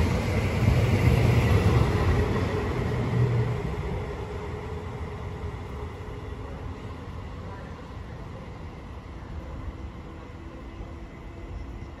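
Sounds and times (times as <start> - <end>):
electric train rumbling away: 0.0 - 12.0.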